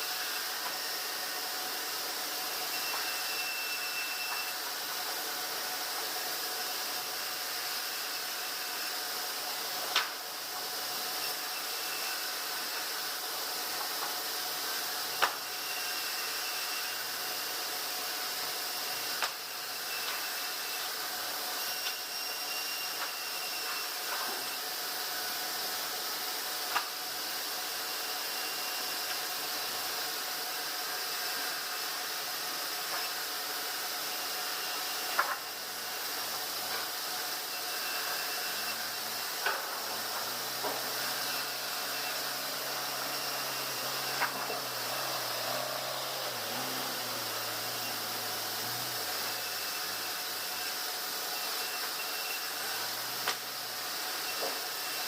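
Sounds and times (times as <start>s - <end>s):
sawmill machinery hissing: 0.0s - 55.0s.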